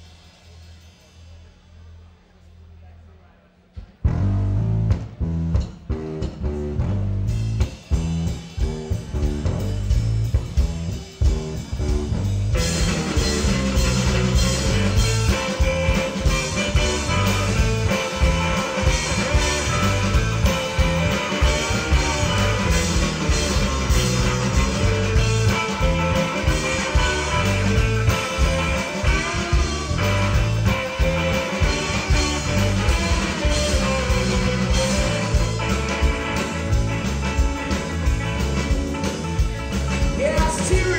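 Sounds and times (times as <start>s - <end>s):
drums: 0.0s - 40.9s
bass guitar: 3.8s - 40.9s
electric guitar: 4.0s - 40.9s.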